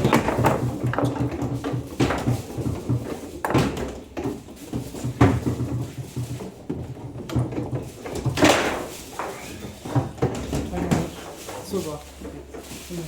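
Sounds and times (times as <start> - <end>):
foosball ball clacking: 0.0 - 11.6
foosball rods knocking: 0.0 - 11.6.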